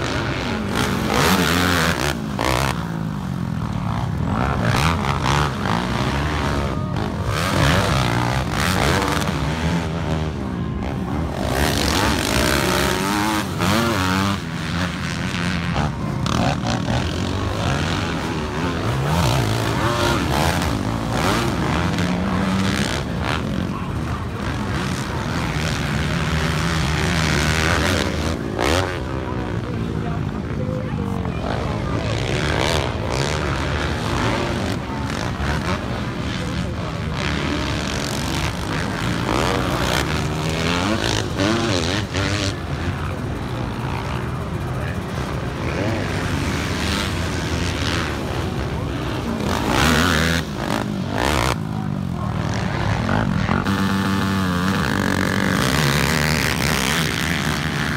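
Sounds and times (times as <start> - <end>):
quad engines revving: 0.0 - 57.9.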